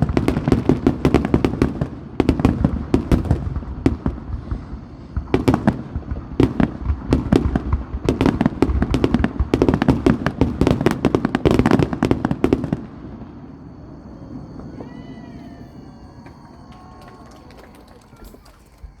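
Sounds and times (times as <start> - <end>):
fireworks rapid bangs: 0.0 - 19.0.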